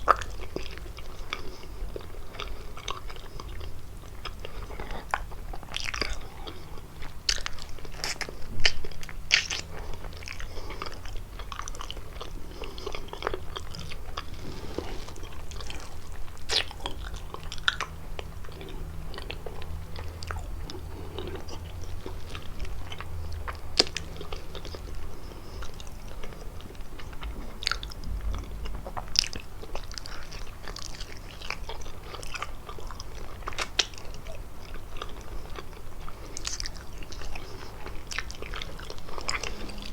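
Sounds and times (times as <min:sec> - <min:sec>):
biting and chewing pastry: 0:00.0 - 0:39.9.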